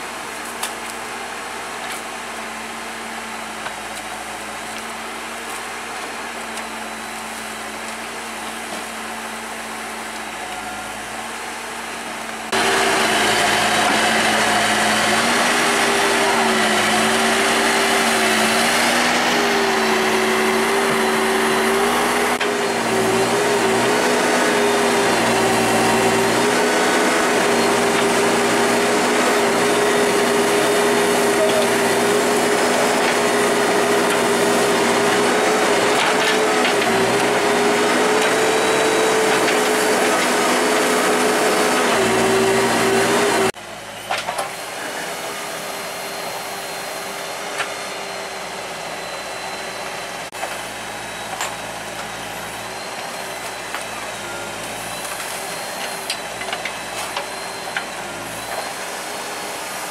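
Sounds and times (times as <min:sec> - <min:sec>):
heavy vehicle engine running: 0:00.0 - 0:59.9.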